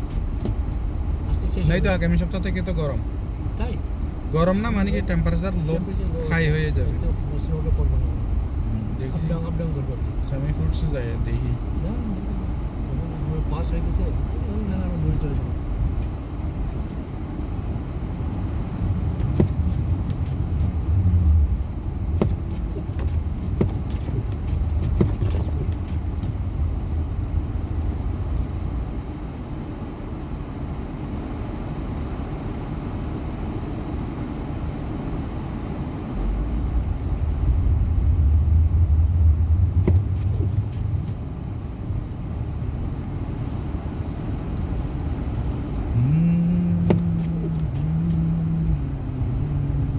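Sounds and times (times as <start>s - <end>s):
truck engine and road drone: 0.0s - 49.9s.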